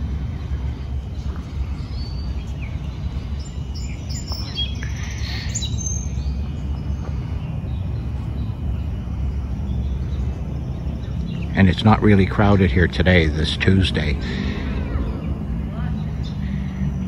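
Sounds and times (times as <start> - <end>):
songbirds chirping: 0.0 - 17.0
steady low rumble: 0.0 - 17.0.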